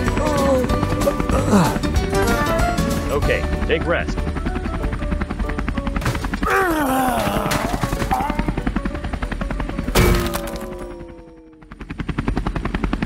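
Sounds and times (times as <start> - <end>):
background music: 0.0 - 11.4
helicopter rotor chopping: 0.0 - 13.0.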